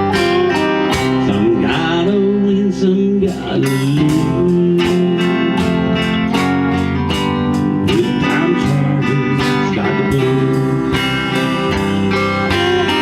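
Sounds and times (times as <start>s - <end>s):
band playing guitar-led instrumental: 0.0s - 13.0s.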